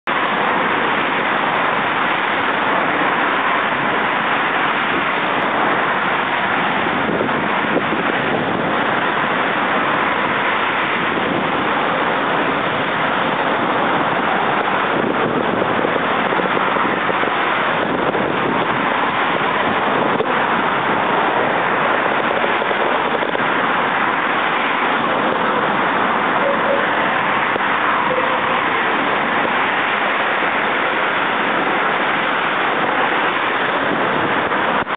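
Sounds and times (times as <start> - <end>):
road traffic: 0.0 - 34.9
wind on microphone: 0.0 - 34.9.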